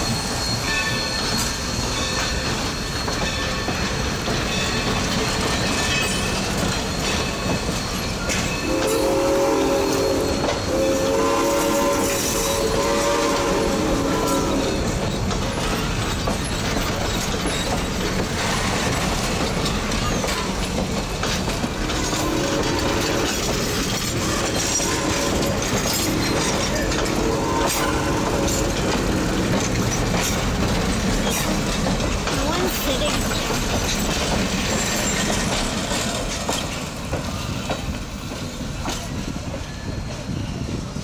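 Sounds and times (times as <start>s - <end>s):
train wheels clacking over rail joints: 0.0s - 41.0s.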